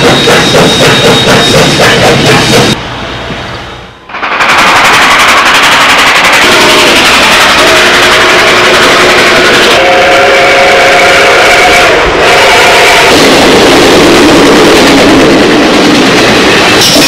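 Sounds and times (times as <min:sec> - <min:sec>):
steam locomotive exhaust beating: 0:00.0 - 0:17.0.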